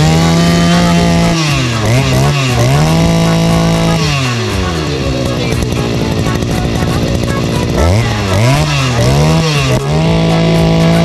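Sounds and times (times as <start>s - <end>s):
brush cutter engine revving: 0.0s - 11.0s.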